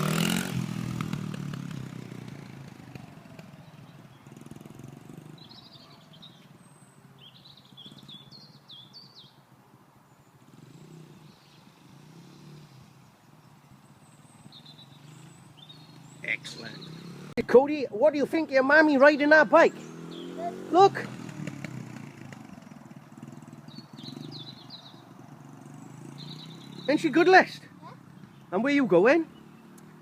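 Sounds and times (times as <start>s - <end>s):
motorcycle engine: 0.0s - 9.6s, 10.2s - 30.0s
birds chirping: 0.0s - 30.0s.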